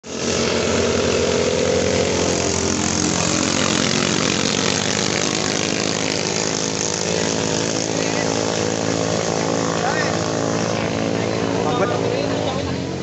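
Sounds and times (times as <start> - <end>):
boat engines buzzing: 0.0 - 13.0.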